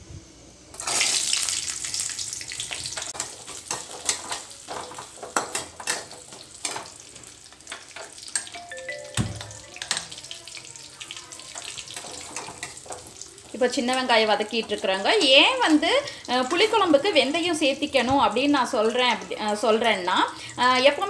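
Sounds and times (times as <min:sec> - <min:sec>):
shallots sizzling in hot oil: 0:00.7 - 0:08.6, 0:09.6 - 0:21.0.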